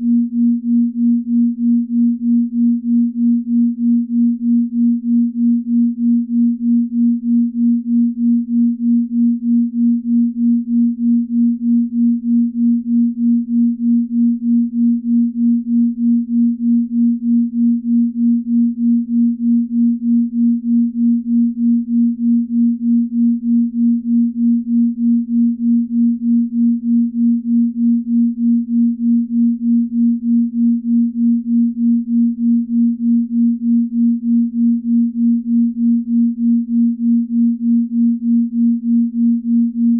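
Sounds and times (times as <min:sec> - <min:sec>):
pulsing low sine tone: 0:00.0 - 0:39.9.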